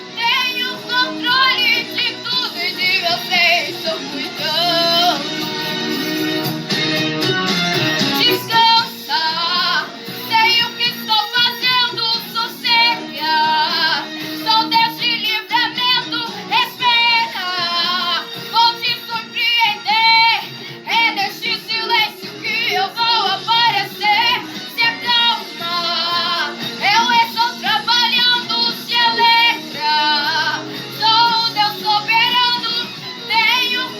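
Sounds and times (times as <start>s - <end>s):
high voice singing with vibrato: 0.0s - 6.1s, 7.3s - 33.9s
instrumental accompaniment: 0.0s - 33.9s.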